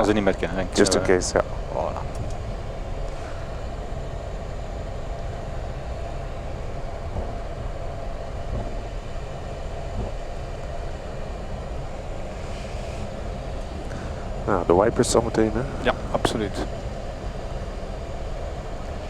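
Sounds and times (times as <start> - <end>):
aircraft cockpit rumble and hum: 0.0 - 19.0.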